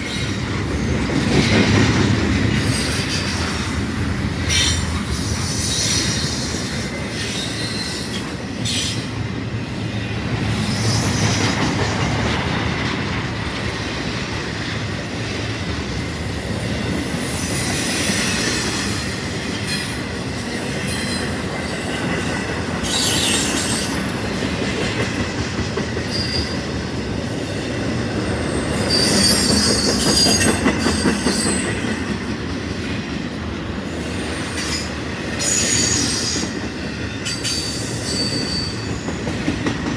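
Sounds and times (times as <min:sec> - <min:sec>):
train wheels squealing: 0:00.0 - 0:09.3, 0:10.5 - 0:32.5, 0:33.8 - 0:39.9
train wheels clacking over rails: 0:00.0 - 0:39.9.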